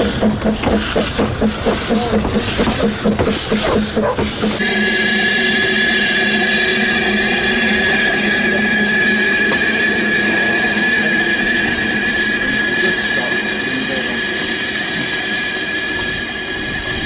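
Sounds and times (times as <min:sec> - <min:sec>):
train wheels squealing on rail: 0:00.0 - 0:17.0.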